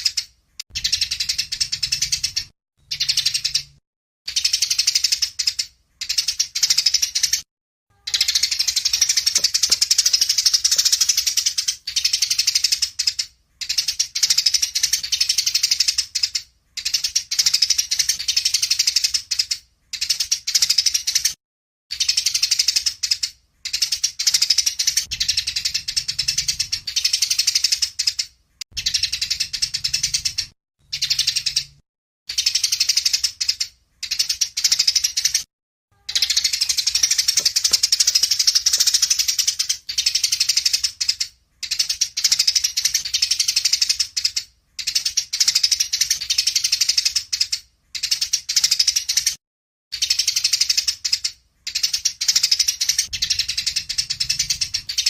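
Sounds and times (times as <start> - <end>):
songbird chattering song: 0.0 - 21.3, 21.9 - 49.3, 50.0 - 55.0.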